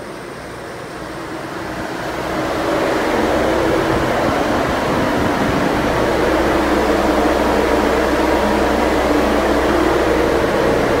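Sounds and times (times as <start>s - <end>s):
evaporator fans whirring: 0.0s - 11.0s
low hum: 0.0s - 11.0s.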